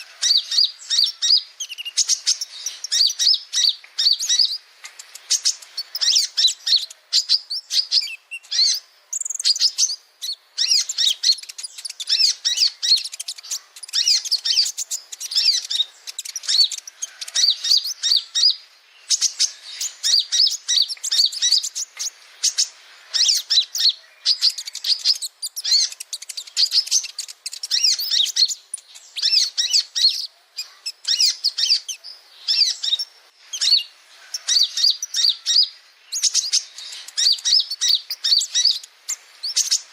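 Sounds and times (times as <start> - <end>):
sunbird twittering song: 0.0 - 39.9.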